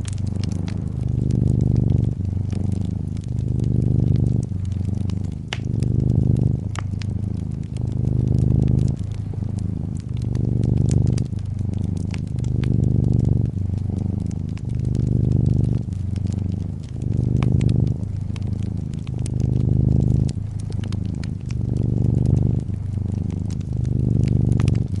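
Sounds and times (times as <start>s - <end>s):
cat purring: 0.0s - 25.0s
wood fire crackling and popping: 0.0s - 25.0s.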